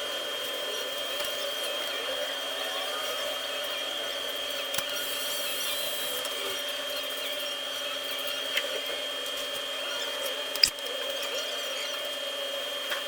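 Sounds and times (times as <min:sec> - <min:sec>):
small electric motor whine: 0:00.0 - 0:13.0.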